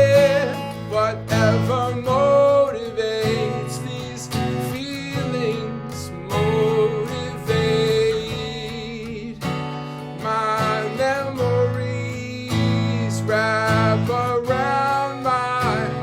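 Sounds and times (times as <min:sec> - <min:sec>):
acoustic guitar chords and notes: 0:00.0 - 0:16.0.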